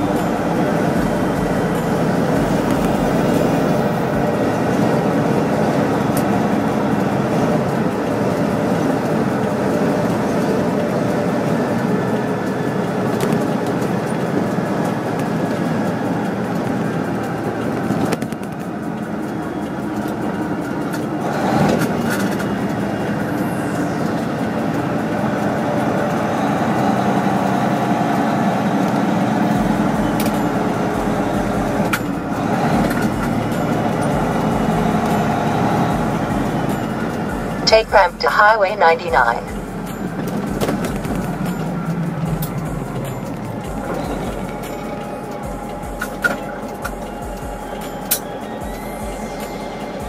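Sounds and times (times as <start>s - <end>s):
truck engine and road noise: 0.0s - 50.0s.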